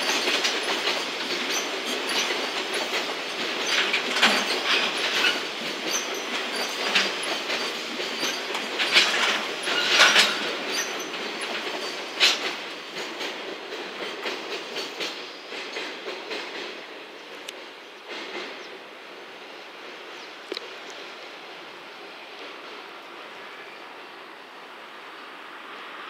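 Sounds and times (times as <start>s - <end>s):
freight train wheels clacking: 0.0s - 23.6s
train rumble: 0.0s - 26.0s.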